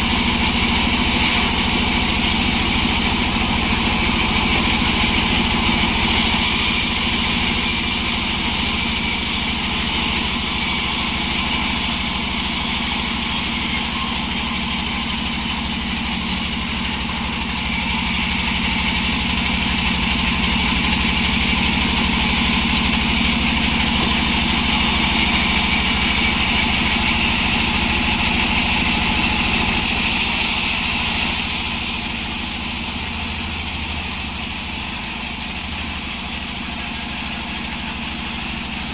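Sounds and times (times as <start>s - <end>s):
sawmill sawing wood: 0.0s - 38.9s.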